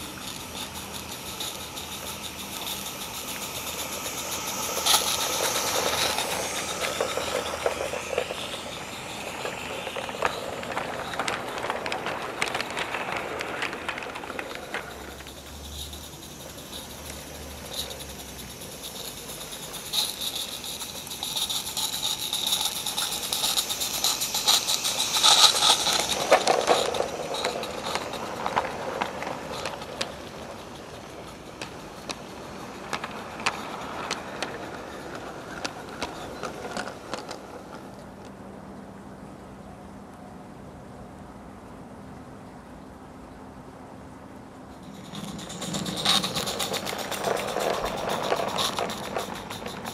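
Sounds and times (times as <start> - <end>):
wheels clicking over rail joints: 0.0 - 38.5, 44.2 - 49.9
model train wagons rolling on track: 0.0 - 39.2, 43.5 - 49.9.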